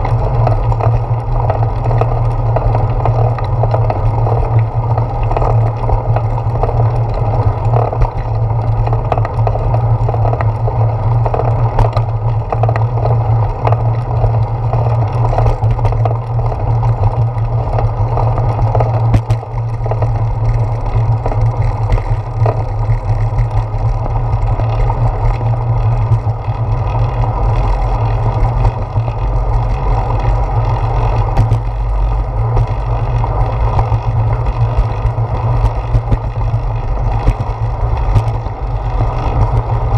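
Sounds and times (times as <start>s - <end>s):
bicycle rolling over concrete: 0.0s - 39.9s.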